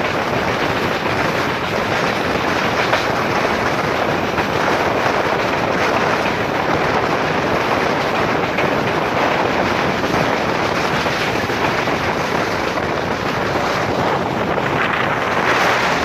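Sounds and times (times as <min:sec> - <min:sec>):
train running noise from on board: 0:00.0 - 0:16.0.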